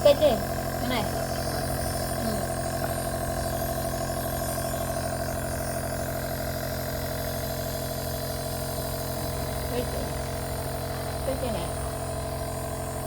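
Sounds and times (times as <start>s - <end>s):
nebulizer compressor humming: 0.0s - 13.0s.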